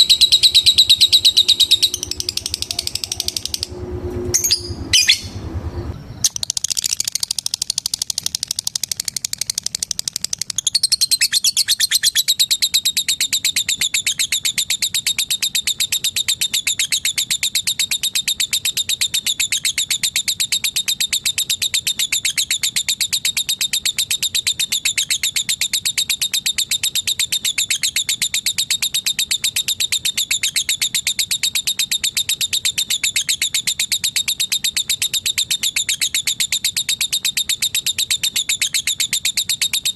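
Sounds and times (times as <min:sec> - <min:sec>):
lovebird chattering trill: 0:00.0 - 0:03.7, 0:04.4 - 0:05.4, 0:06.2 - 0:39.9.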